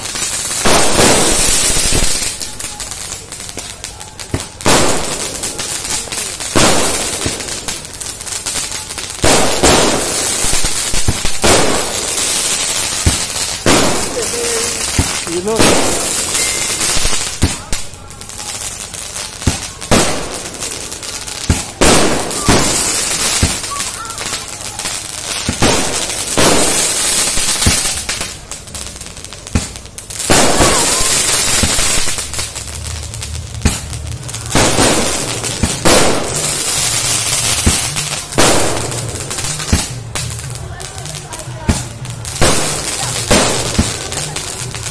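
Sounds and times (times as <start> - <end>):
firework bangs: 0.0 - 44.9
hissing crackling sparks: 0.0 - 44.9.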